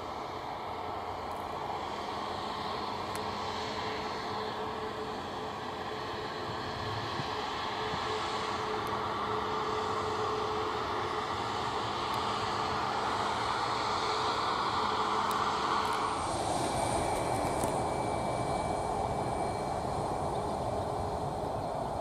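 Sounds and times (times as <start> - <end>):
jet engines whining at low power: 0.0 - 22.0.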